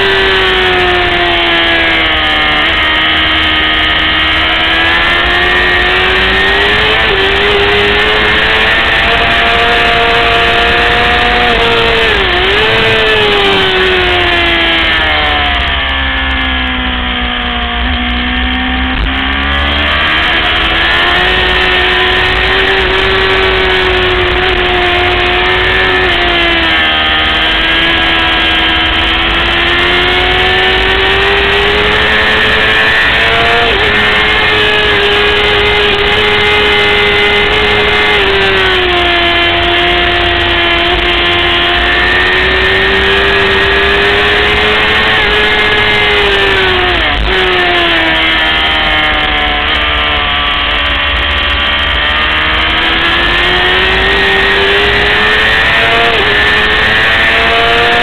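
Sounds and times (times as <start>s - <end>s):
motorcycle engine revving high: 0.0s - 58.0s.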